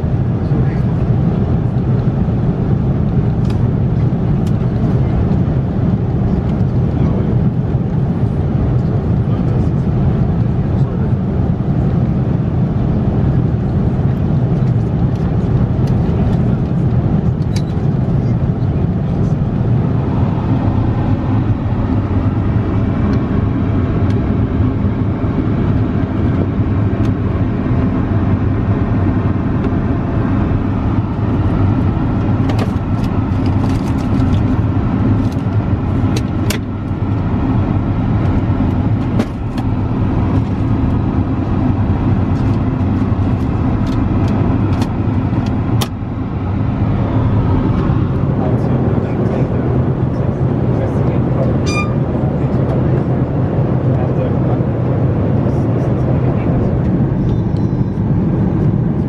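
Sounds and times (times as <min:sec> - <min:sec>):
airplane cabin hum: 0:00.0 - 0:59.0.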